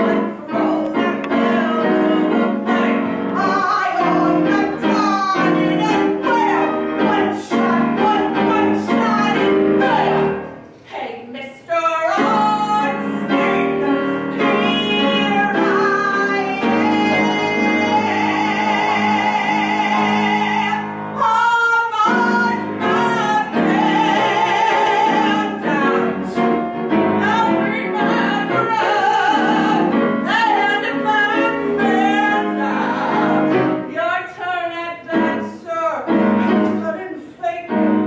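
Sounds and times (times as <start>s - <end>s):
piano chords: 0.0s - 10.9s, 11.5s - 38.0s.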